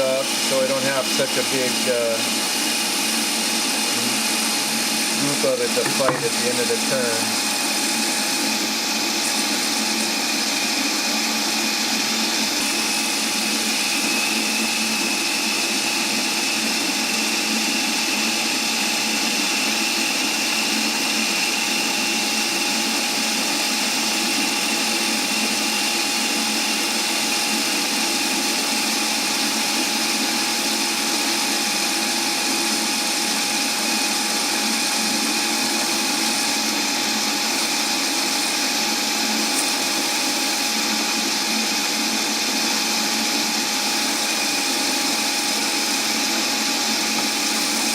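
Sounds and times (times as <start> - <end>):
hiss of wood cutting: 0.0 - 47.9
lathe motor whine: 0.0 - 47.9.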